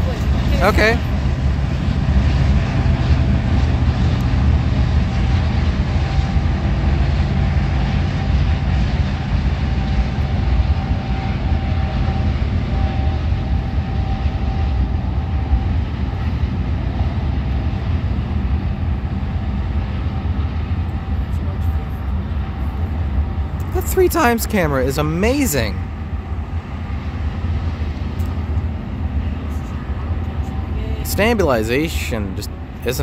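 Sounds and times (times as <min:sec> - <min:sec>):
diesel engines droning: 0:00.0 - 0:33.0
train wheels rumbling: 0:00.0 - 0:33.0.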